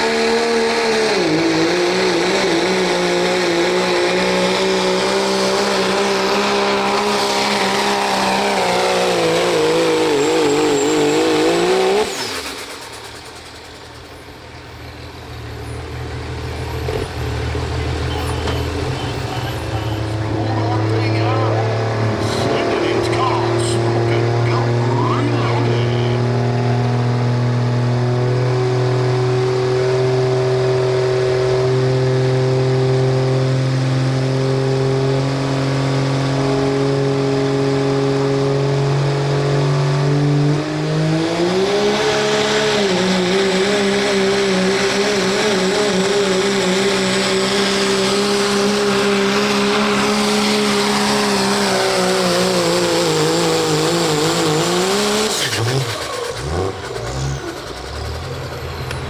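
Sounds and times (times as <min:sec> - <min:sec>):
diesel truck engine revving high: 0:00.0 - 0:59.0.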